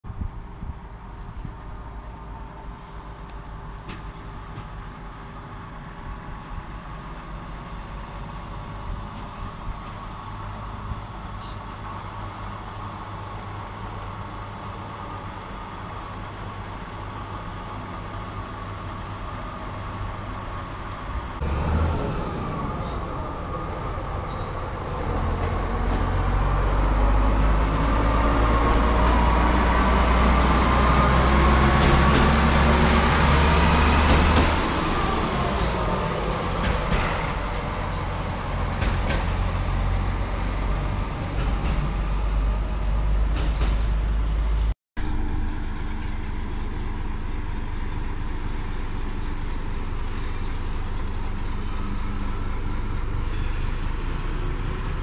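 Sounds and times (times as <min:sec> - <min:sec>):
diesel engine running: 0:00.6 - 0:55.0.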